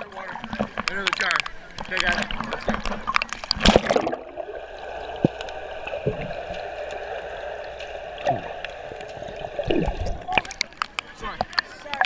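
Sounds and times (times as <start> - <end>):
muffled underwater water wash: 0.0 - 12.0
water gurgling: 0.0 - 12.0.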